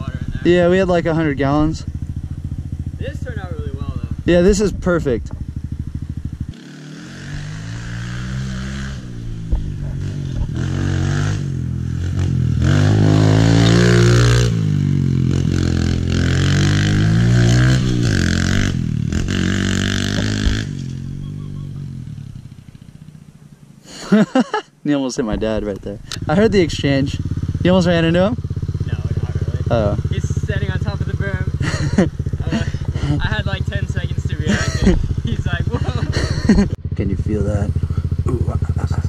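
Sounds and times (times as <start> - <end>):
dirt bike engine revving: 0.0 - 24.6, 25.3 - 39.0.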